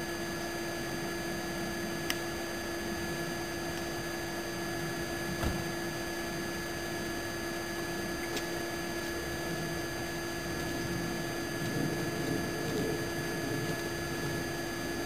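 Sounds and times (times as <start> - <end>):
constant whining tones: 0.0 - 15.0
steady hum and hiss: 0.0 - 15.0.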